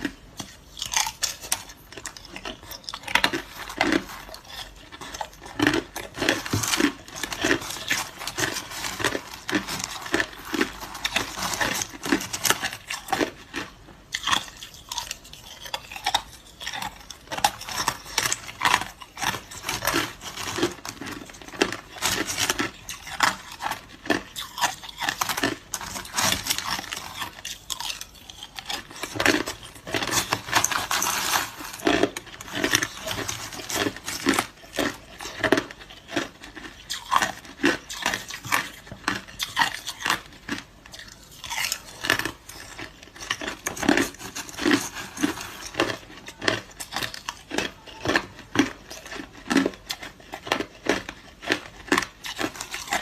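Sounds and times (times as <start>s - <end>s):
ice crunching while chewed: 0.0s - 53.0s.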